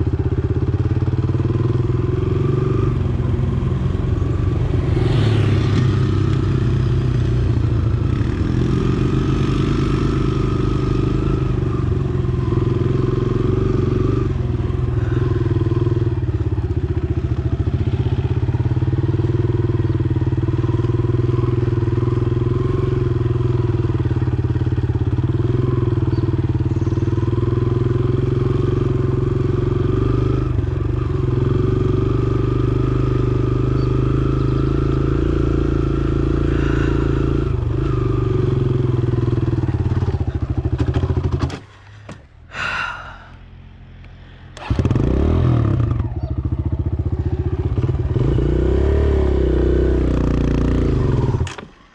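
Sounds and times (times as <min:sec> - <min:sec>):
dirt bike engine under throttle: 0:00.0 - 0:51.9.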